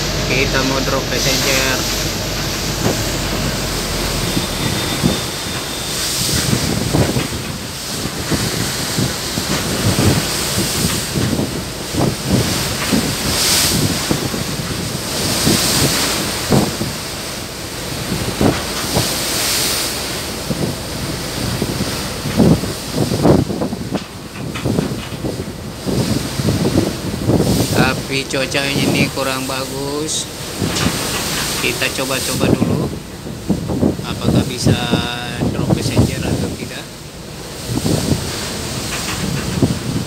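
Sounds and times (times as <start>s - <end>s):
hissing wash: 0.0s - 24.4s, 25.4s - 40.0s
rough sea around boat: 0.0s - 40.0s
wind buffeting microphone: 0.0s - 40.0s.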